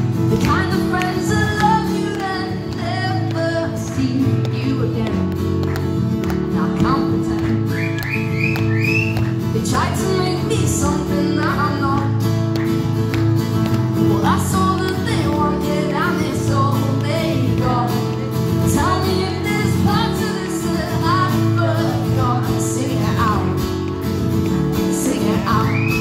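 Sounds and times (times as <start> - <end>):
strummed acoustic guitar: 0.0 - 26.0
woman singing: 0.2 - 12.6, 13.9 - 26.0.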